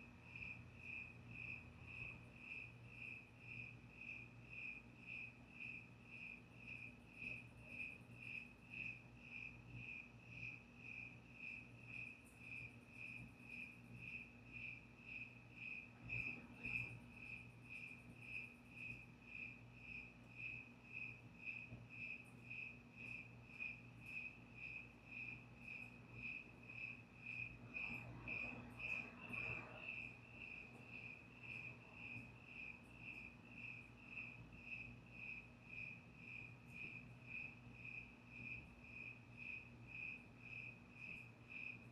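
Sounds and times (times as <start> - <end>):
faint low hum: 0.0 - 41.9
cricket chirping: 0.1 - 41.9.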